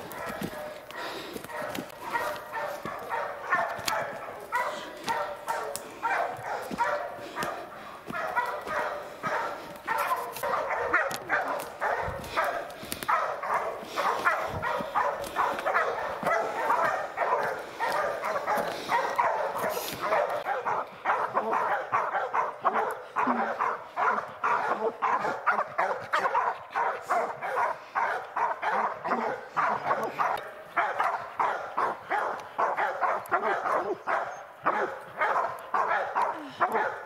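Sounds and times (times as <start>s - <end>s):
hounds barking: 0.0s - 37.0s.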